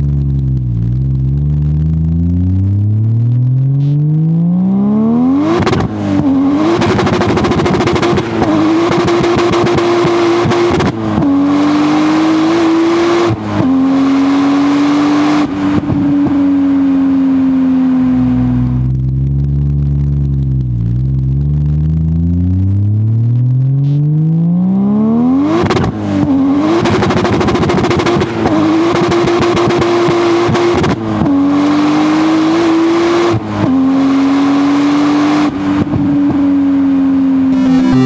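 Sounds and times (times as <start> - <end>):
car engine accelerating hard: 0.0 - 38.0.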